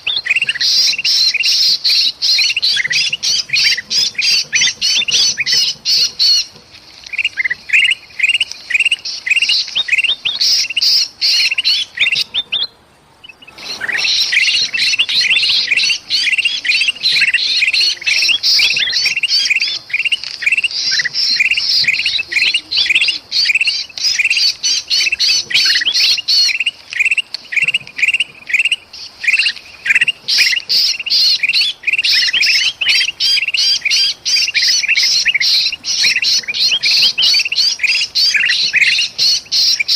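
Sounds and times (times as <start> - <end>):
bulbuls chirping in alarm: 0.0 - 39.9.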